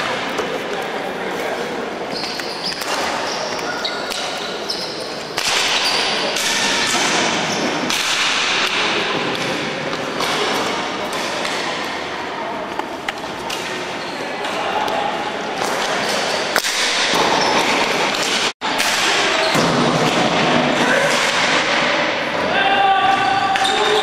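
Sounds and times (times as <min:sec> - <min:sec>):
voices echoing in arena: 0:00.0 - 0:24.0.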